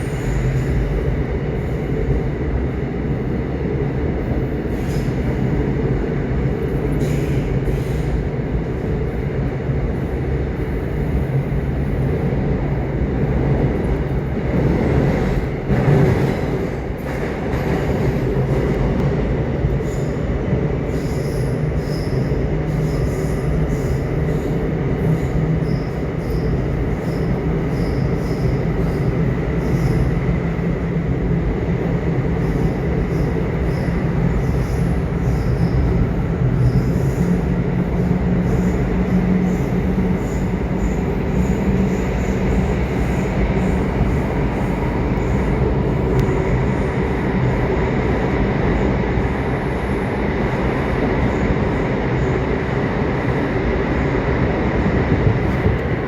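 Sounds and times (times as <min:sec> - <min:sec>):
subway train rumbling on rails: 0:00.0 - 0:56.0.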